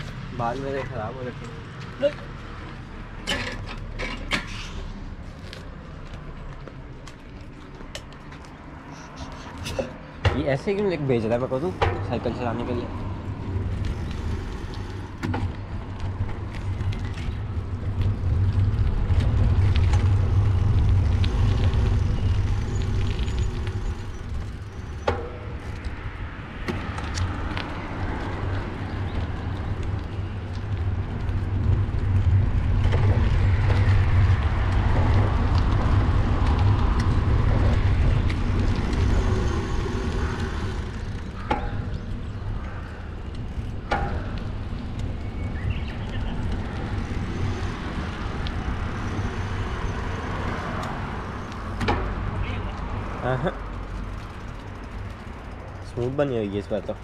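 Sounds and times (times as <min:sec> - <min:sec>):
road and tyre noise: 0:00.0 - 0:57.0
sharp clicks and rattles: 0:09.6 - 0:57.0
wind buffeting microphone: 0:09.6 - 0:57.0.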